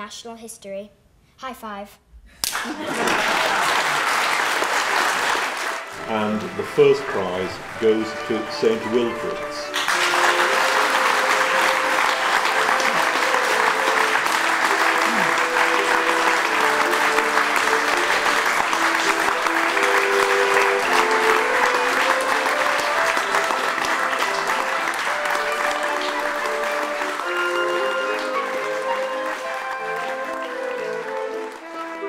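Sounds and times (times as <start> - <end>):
audience applauding: 2.4 - 32.0
slow background music: 5.7 - 32.0.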